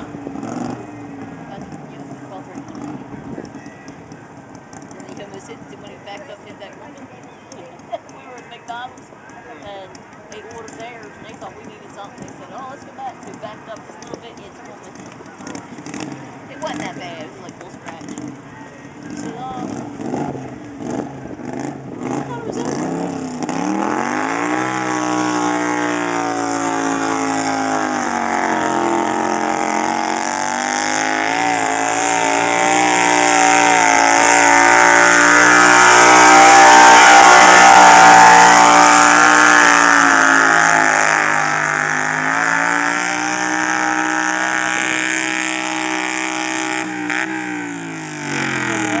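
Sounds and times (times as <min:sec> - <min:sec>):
tractor engine revving hard: 0:00.0 - 0:06.8, 0:14.9 - 0:49.0.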